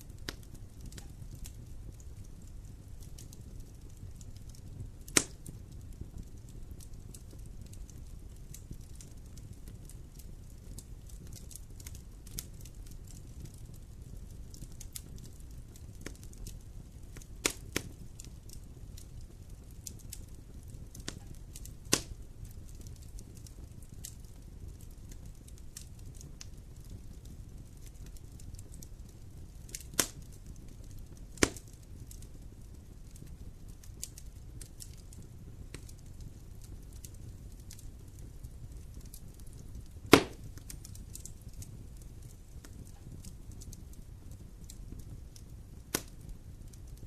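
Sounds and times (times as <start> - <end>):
campfire crackling: 0.0 - 47.0
sharp fire pops: 0.0 - 47.0.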